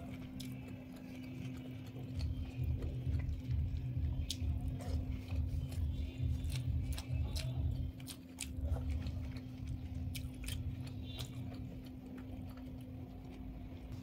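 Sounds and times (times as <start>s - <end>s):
chewing with wet mouth clicks: 0.0s - 14.0s
faint steady hum: 0.0s - 14.0s.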